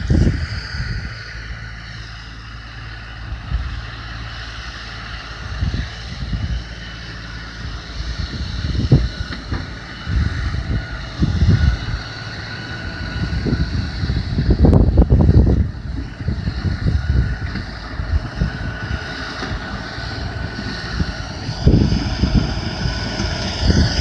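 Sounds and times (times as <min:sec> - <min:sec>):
high whine: 0:00.0 - 0:24.0
tractor diesel engine running: 0:00.0 - 0:24.0.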